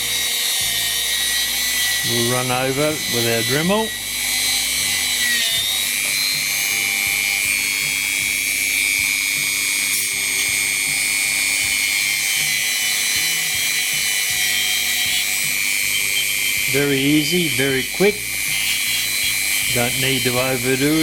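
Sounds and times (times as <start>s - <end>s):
rotary tool whining: 0.0s - 21.0s.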